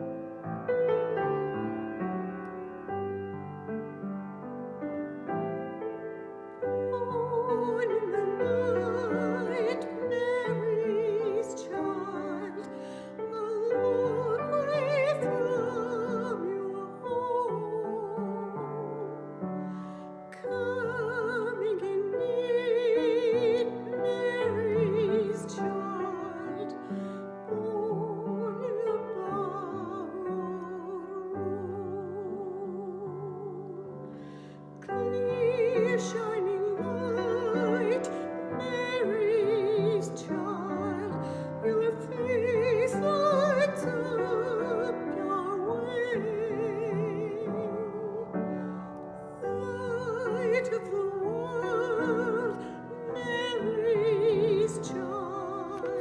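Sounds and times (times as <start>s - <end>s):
piano accompaniment: 0.0s - 56.0s
soprano singing a carol: 6.5s - 19.5s, 20.3s - 56.0s.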